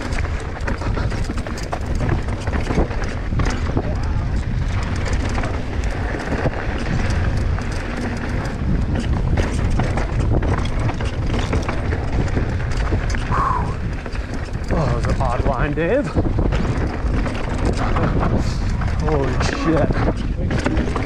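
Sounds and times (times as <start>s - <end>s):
bike rattling with sharp clicks: 0.0s - 21.0s
bike tyres running over rock: 0.0s - 21.0s
wind rumble on microphone: 0.0s - 21.0s.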